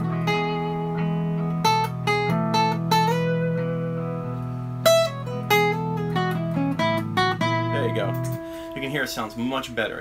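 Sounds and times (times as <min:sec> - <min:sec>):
acoustic guitar solo: 0:00.0 - 0:10.0
backing track of held chords: 0:00.0 - 0:10.0.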